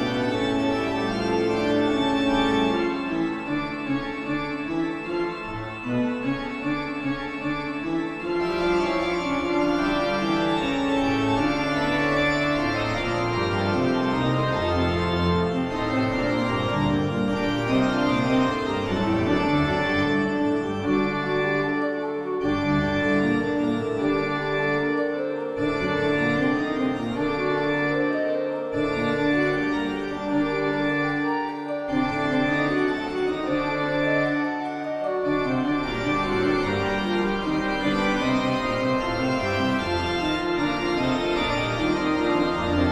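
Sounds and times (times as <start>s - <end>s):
eerie organ music: 0.0s - 42.9s.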